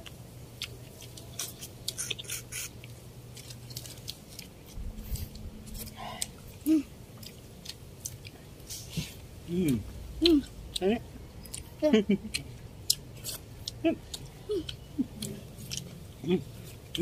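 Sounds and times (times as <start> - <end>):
chewing with wet mouth clicks: 0.0 - 4.8, 7.1 - 17.0.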